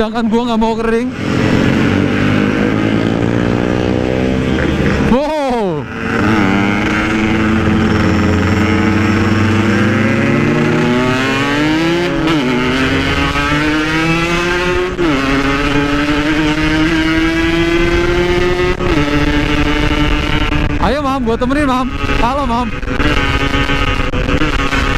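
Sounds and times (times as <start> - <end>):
motorcycle engine accelerating: 0.6 - 24.9.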